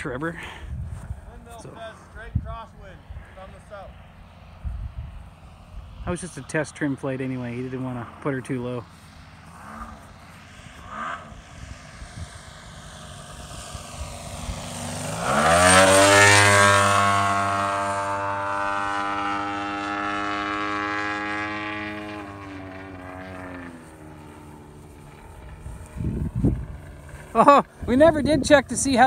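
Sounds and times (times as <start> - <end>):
model plane engine drone: 0.0 - 29.0.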